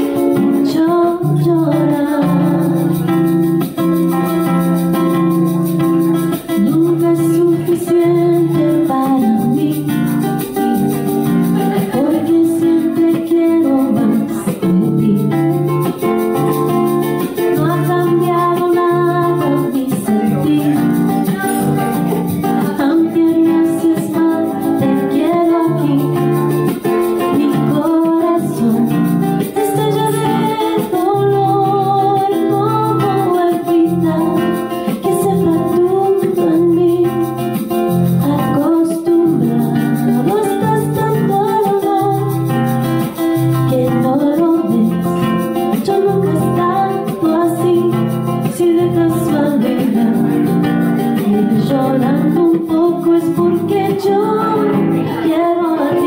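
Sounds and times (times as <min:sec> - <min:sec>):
nylon-string guitar fingerpicked: 0:00.0 - 0:56.0
woman singing: 0:00.0 - 0:56.0.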